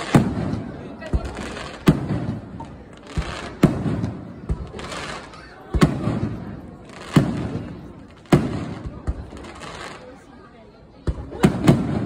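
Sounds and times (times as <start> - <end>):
firework shells booming: 0.0 - 9.6, 11.1 - 12.0.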